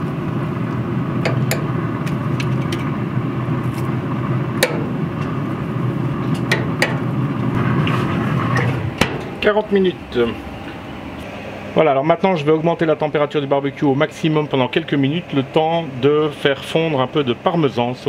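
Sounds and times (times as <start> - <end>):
grill fan humming: 0.0 - 18.0.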